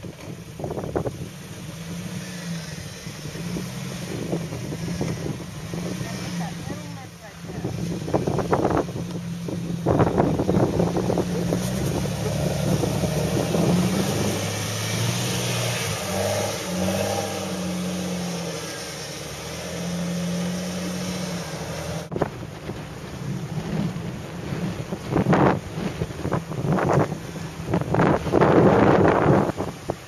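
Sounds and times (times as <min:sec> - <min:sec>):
wind noise on microphone: 0:00.0 - 0:18.7, 0:19.7 - 0:30.0
engine revving: 0:00.0 - 0:29.8.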